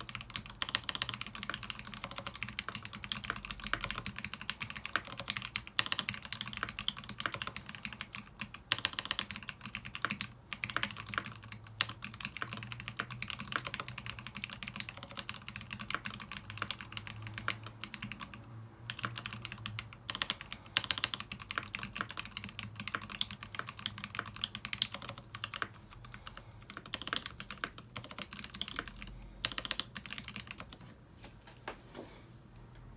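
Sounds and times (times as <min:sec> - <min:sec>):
mechanical keyboard typing: 0:00.0 - 0:30.8.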